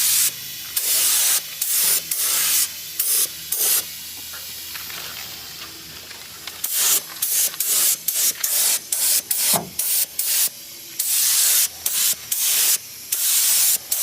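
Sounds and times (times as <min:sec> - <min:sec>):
compressed air hissing bursts: 0:00.0 - 0:04.6, 0:06.6 - 0:14.0.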